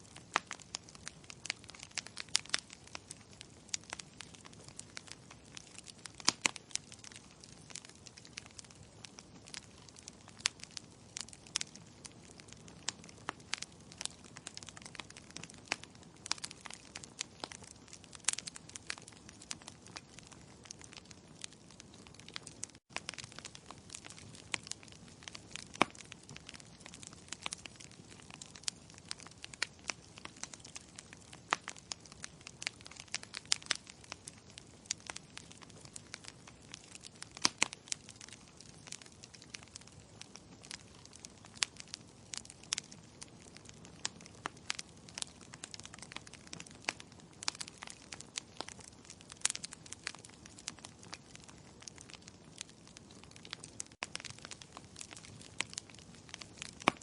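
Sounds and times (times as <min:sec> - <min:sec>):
logs crackling and popping: 0:00.0 - 0:57.0.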